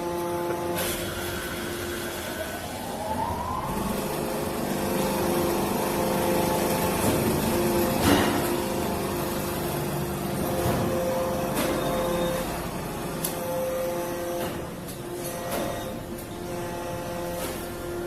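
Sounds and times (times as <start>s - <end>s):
machine whine: 0.0s - 18.0s
press machine humming: 0.0s - 18.0s.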